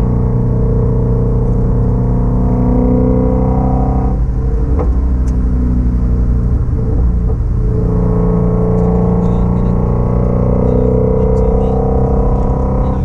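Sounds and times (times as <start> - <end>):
car engine and exhaust: 0.0 - 13.0.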